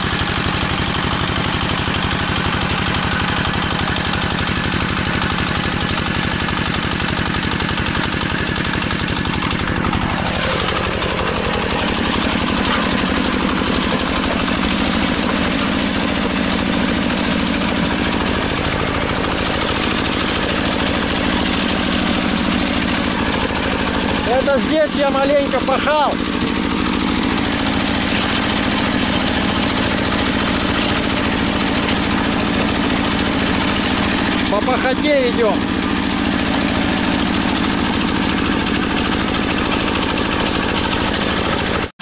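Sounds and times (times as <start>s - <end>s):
tractor engine running under load: 0.0s - 42.0s.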